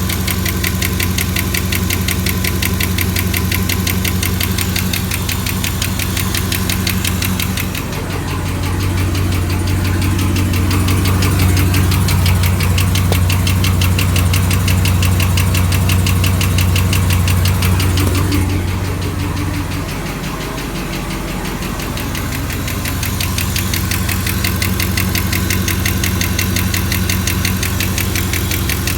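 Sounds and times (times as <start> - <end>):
car engine running: 0.0 - 28.9
fast even valvetrain ticking: 0.0 - 28.9.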